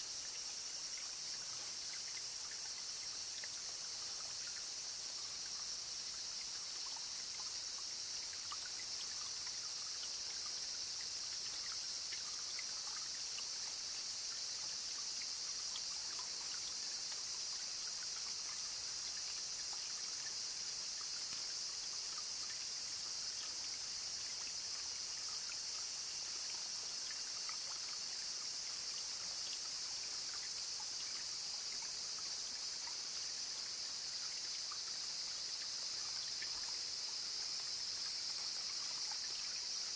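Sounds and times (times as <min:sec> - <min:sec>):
insects chorus: 0:00.0 - 0:39.9
water trickling and dripping: 0:00.0 - 0:39.9.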